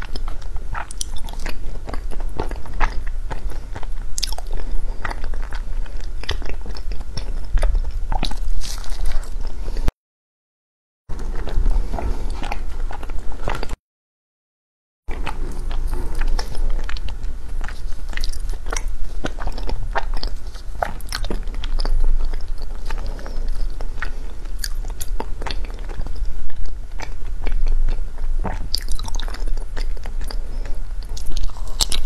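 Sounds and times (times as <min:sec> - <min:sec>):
chewing and crunching ice: 0:00.0 - 0:09.9, 0:15.1 - 0:32.0.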